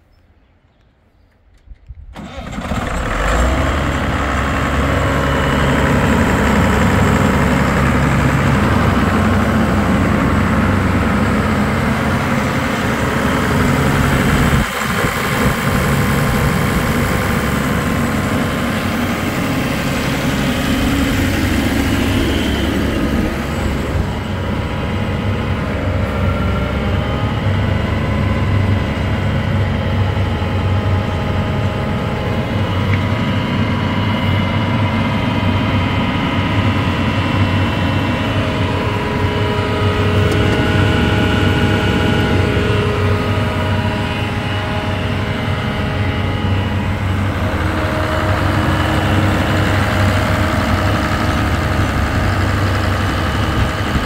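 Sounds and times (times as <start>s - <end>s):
diesel tractor engine idling: 2.1s - 54.0s.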